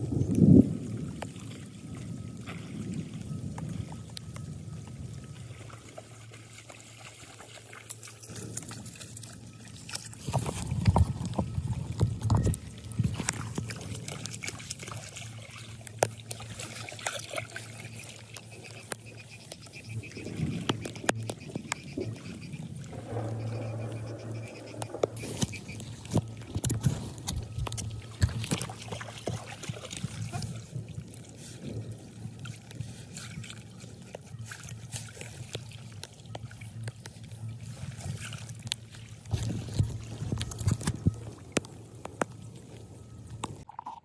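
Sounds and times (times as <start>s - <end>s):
shallow water splashing and trickling: 0.0s - 44.0s.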